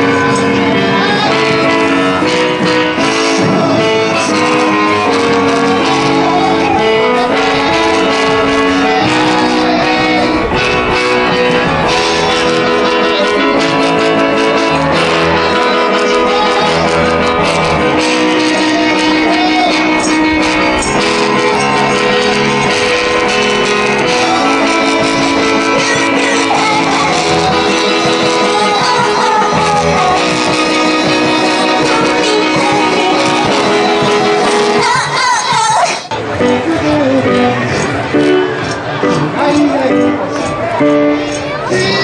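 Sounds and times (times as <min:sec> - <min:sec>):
guitar music: 0:00.0 - 0:42.0.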